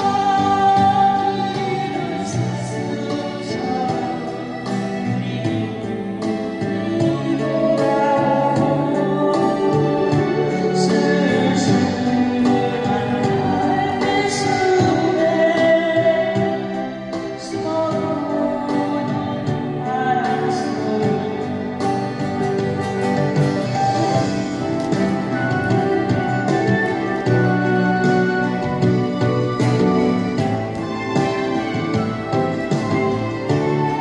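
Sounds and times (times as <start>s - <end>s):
instrumental accompaniment: 0.0s - 34.0s
person singing a ballad: 0.0s - 34.0s.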